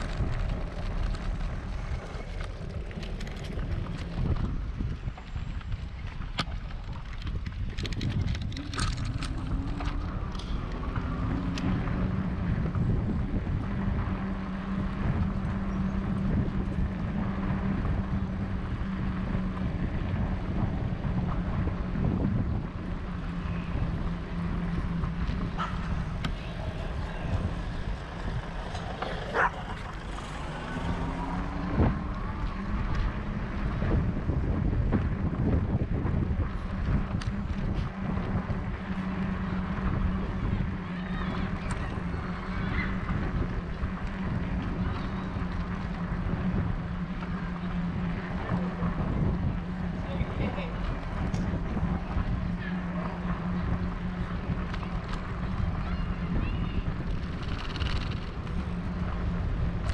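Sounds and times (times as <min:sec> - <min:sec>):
motor traffic passing: 0:00.0 - 0:59.9
wind buffeting microphone: 0:00.0 - 0:59.9.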